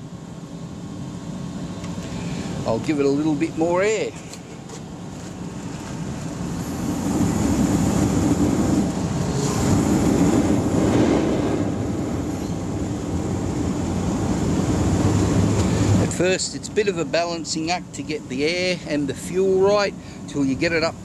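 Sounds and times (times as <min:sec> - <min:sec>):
oil burner blower rushing: 0:00.0 - 0:21.0.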